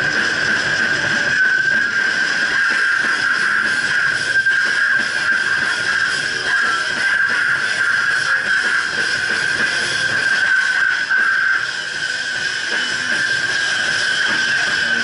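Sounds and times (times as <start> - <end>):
distorted electric guitar music: 0.0 - 15.0
steady high-pitched tone: 0.0 - 15.0.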